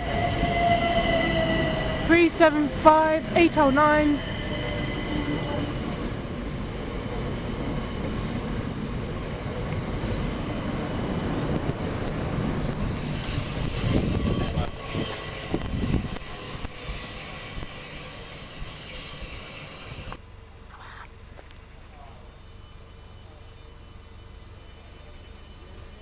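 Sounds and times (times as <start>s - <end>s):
electric train passing: 0.0s - 20.5s, 22.3s - 26.0s.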